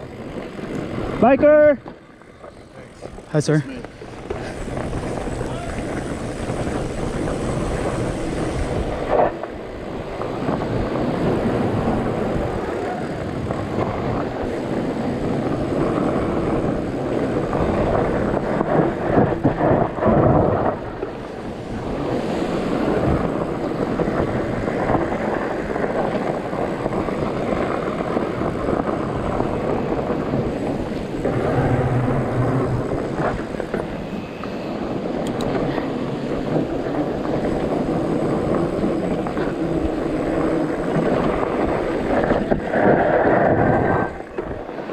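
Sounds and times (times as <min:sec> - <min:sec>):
bicycle rattling down dirt trail: 0:00.0 - 0:44.9
wind buffeting microphone: 0:00.0 - 0:44.9.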